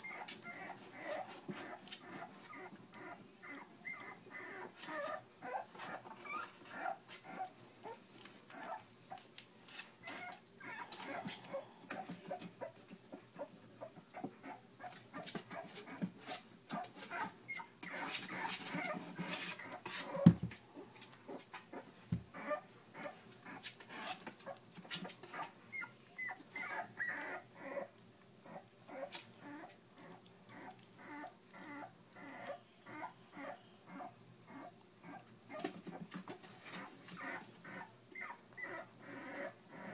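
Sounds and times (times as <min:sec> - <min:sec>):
puppy whimpering: 0:00.0 - 0:39.9.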